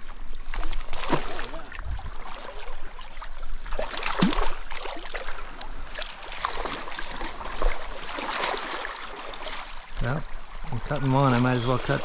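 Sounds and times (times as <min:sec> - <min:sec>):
rushing stream current: 0:00.0 - 0:12.0
water sloshing and splashing: 0:00.0 - 0:12.0.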